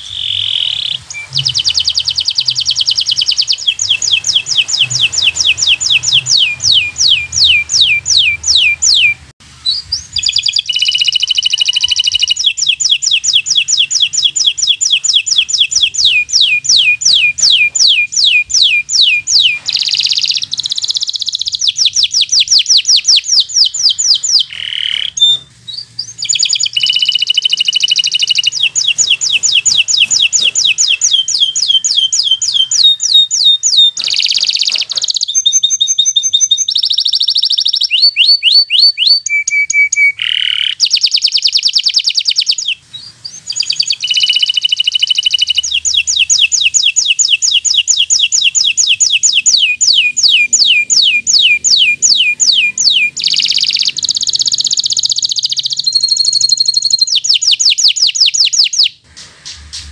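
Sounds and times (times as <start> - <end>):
canary singing in rolling trills: 0.0 - 59.9.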